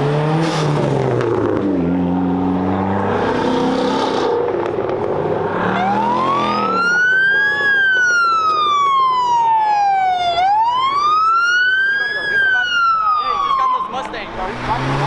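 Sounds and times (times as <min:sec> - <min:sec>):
police siren wailing: 0:01.9 - 0:15.0.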